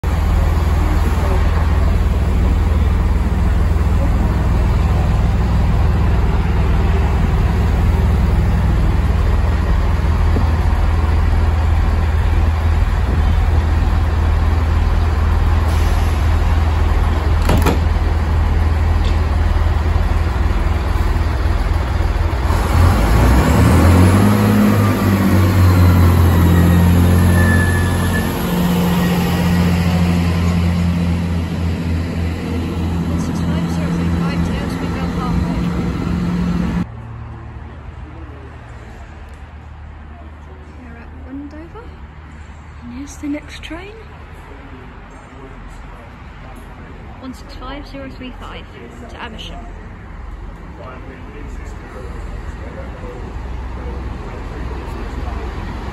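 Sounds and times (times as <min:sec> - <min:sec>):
diesel train engine: 0:00.0 - 0:55.9.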